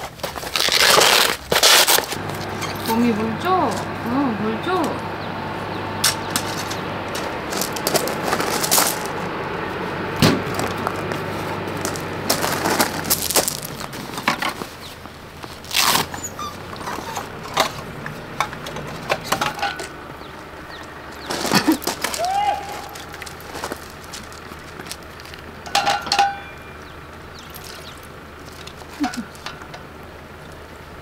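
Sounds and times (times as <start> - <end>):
low steady hum: 1.6 - 31.0.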